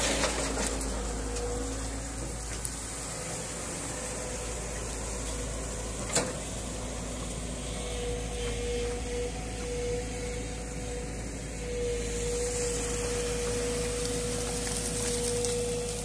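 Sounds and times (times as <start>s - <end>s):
excavator engine drone: 0.0s - 16.0s
hydraulic whine: 0.0s - 16.0s.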